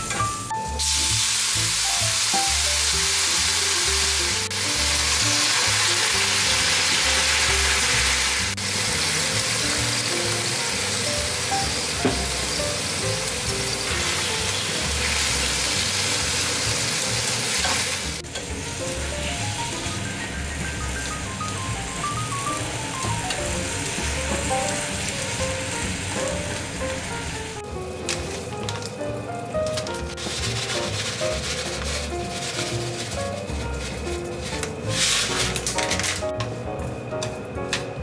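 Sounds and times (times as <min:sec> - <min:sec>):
light background music: 0:00.0 - 0:38.0
vegetables sizzling in a frying pan: 0:00.3 - 0:37.0.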